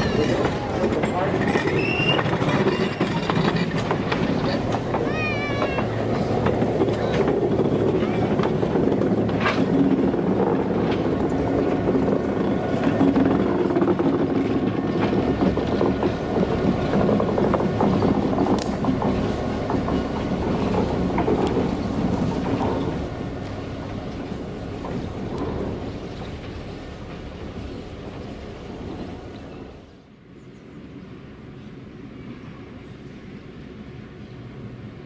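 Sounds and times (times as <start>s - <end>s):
diesel locomotive engine running: 0.0s - 35.0s
train coaches rolling over rails: 0.0s - 35.0s.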